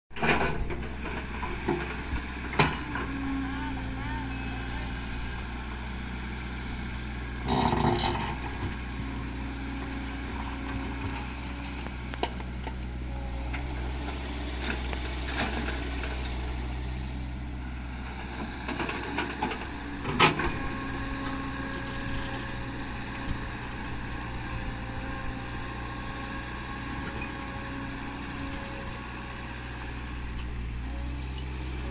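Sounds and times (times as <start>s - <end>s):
diesel engine running: 0.1s - 31.9s.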